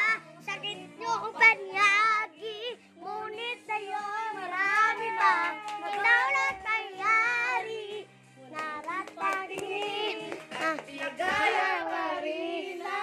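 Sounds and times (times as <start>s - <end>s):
child singing: 0.0s - 13.0s
music: 0.0s - 13.0s.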